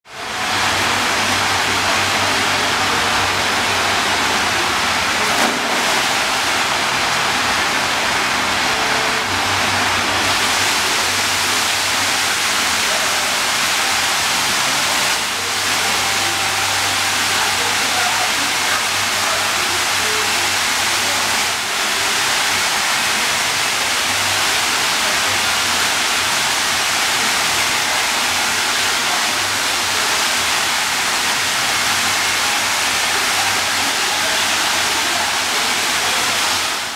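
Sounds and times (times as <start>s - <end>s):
water pouring into pool: 0.2s - 36.9s.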